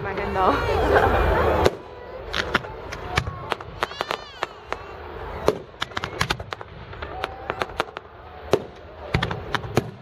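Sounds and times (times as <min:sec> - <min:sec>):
fireworks banging and crackling: 0:00.0 - 0:10.0.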